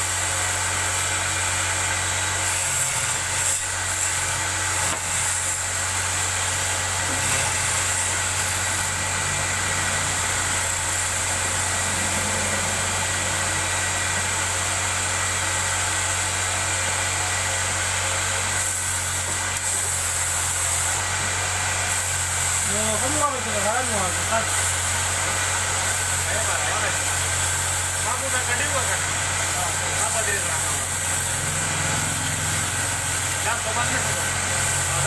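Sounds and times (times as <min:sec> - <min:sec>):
wood lathe motor running: 0:00.0 - 0:35.0.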